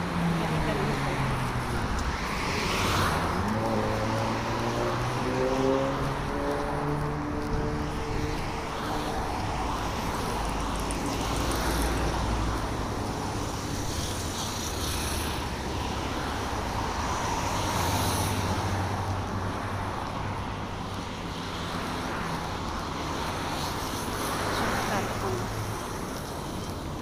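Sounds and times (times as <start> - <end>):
cars driving by: 0.0 - 27.0.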